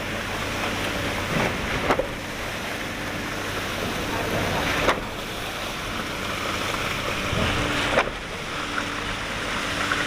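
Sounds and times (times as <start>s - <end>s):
heavy construction machinery running: 0.0s - 10.0s.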